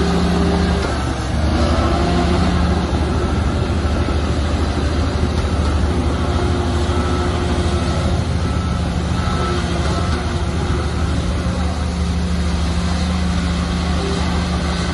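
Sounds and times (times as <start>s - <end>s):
bulldozer diesel engine running: 0.0s - 14.9s.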